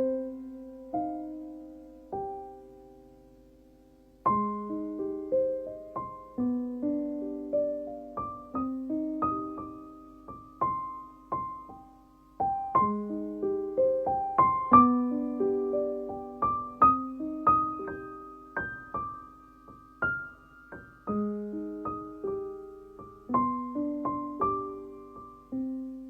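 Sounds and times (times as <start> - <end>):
gentle solo piano melody: 0.0 - 26.0.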